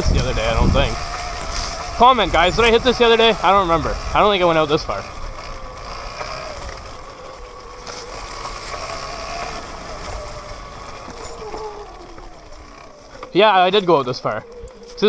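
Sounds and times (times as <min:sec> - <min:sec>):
electric motor whine: 0:00.0 - 0:15.0
tyre and wind rumble: 0:00.0 - 0:15.0.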